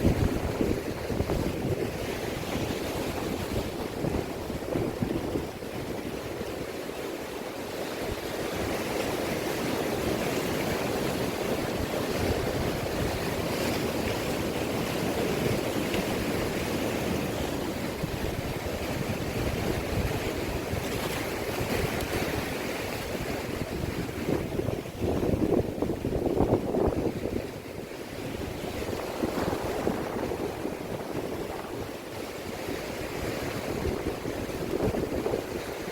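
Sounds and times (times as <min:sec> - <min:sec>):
wind gusting on microphone: 0:00.0 - 0:06.7, 0:08.1 - 0:35.9
sea waves washing in: 0:00.0 - 0:35.9.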